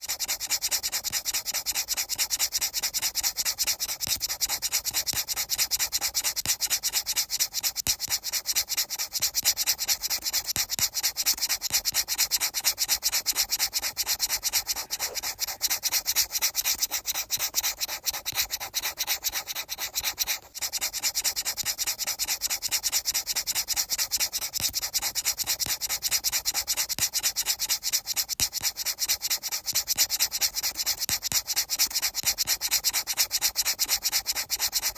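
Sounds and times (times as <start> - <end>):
scratchy rubbing strokes: 0.0 - 34.9.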